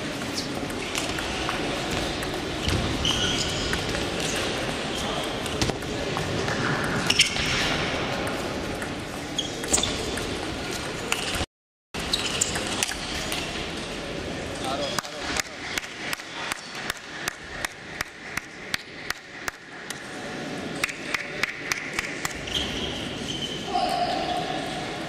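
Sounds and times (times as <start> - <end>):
din of a large hall: 0.0 - 25.0.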